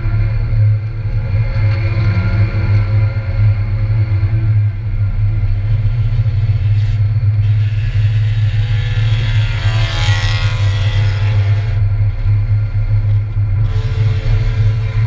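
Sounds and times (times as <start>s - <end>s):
race car engine and road drone: 0.0s - 15.0s.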